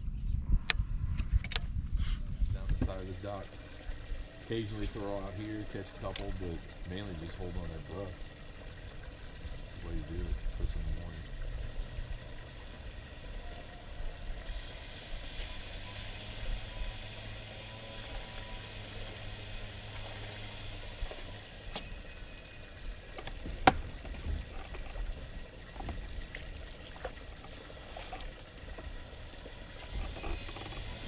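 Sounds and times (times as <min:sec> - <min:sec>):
steady low hum: 0:00.0 - 0:31.0
light water sounds: 0:02.7 - 0:31.0.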